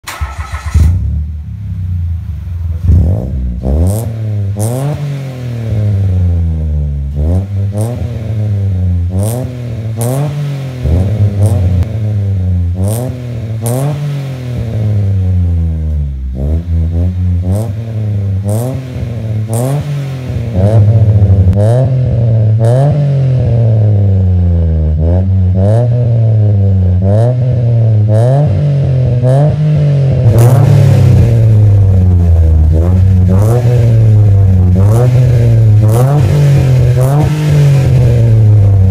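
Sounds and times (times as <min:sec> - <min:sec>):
exhaust cracks: 0:00.0 - 0:22.7, 0:30.2 - 0:38.9
car engine revving: 0:00.0 - 0:38.9.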